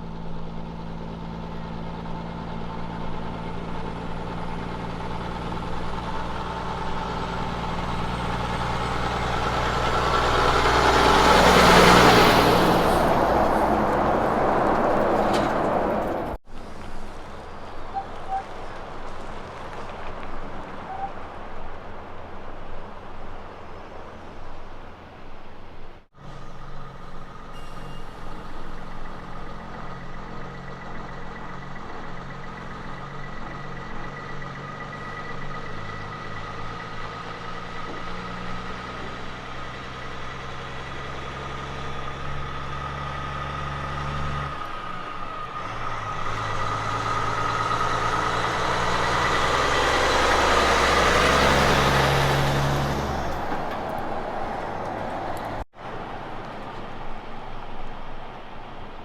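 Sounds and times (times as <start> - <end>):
truck diesel engine under load: 0.0 - 59.0
tyre and road noise: 0.0 - 59.0.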